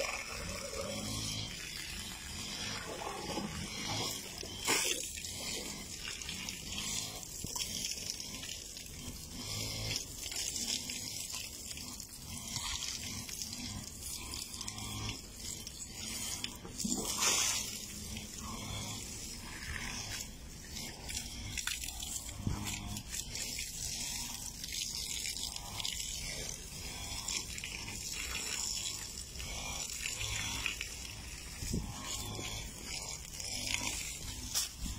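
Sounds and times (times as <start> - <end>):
elephant noises: 0.0 - 10.7, 11.8 - 34.9
hose water spraying on concrete: 0.0 - 34.9.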